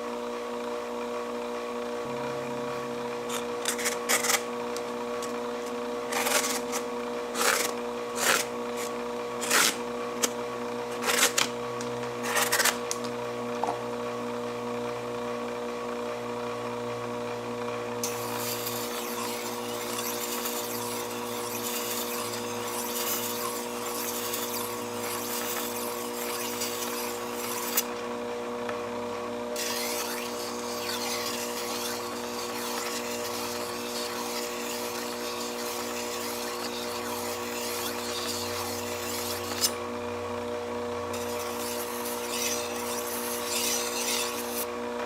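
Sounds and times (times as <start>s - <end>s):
sharpening machine motor hum: 0.0s - 45.0s.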